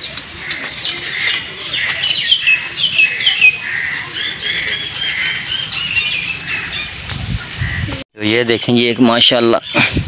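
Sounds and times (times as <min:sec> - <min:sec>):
birds squawking: 0:00.0 - 0:10.0.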